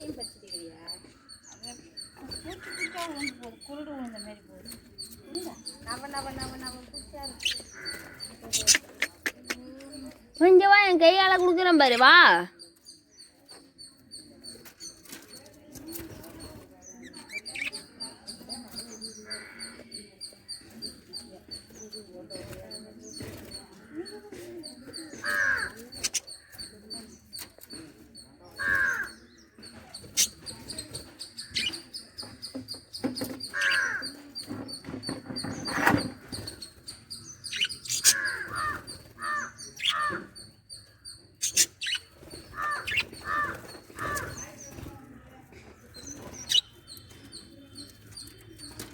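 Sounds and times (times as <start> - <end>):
squeaky bird calls: 0.0 - 10.6, 11.4 - 44.7, 45.9 - 48.9
lovebirds chirping: 0.0 - 48.9.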